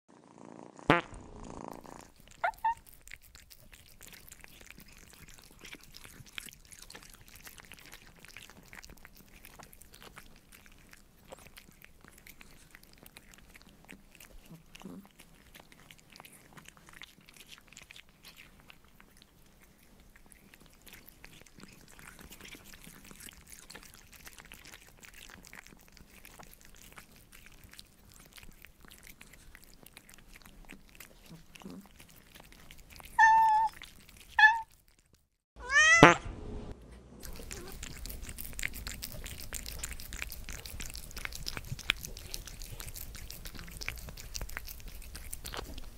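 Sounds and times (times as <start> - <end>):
kittens licking wet clicks: 2.0 - 35.4, 37.2 - 45.9.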